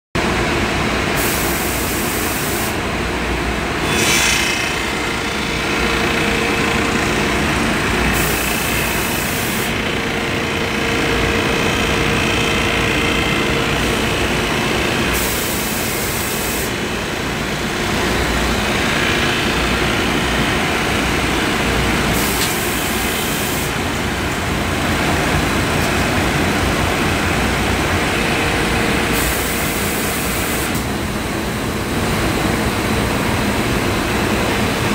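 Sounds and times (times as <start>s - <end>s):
wide-belt sander running: 3.4s - 34.9s.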